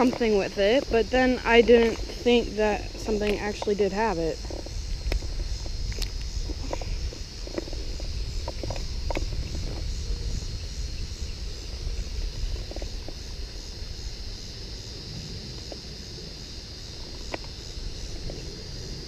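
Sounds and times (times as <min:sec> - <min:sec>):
insect chorus: 0:00.0 - 0:19.0
wind buffeting microphone: 0:00.0 - 0:19.0.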